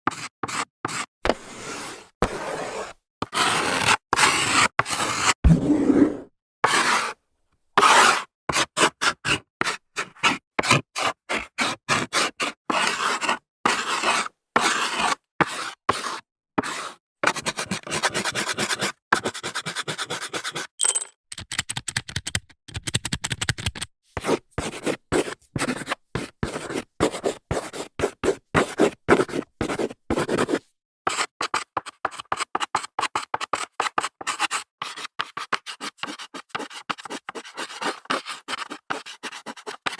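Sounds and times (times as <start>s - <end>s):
chalk scratching on blackboard: 0.1s - 5.4s, 6.0s - 7.2s, 7.8s - 20.7s, 24.2s - 39.9s.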